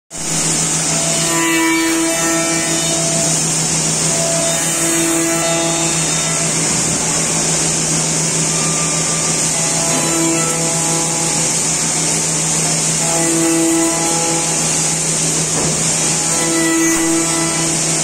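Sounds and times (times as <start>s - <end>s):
cutter tones on wood: 0.1s - 18.0s
machine spindle hissing and humming: 0.1s - 18.0s.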